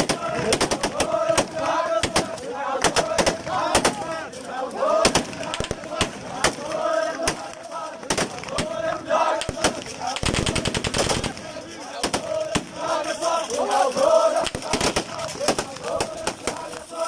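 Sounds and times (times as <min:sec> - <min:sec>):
gunfire: 0:00.0 - 0:04.1, 0:05.0 - 0:12.8, 0:14.4 - 0:16.8
men shouting and chanting: 0:00.0 - 0:17.0.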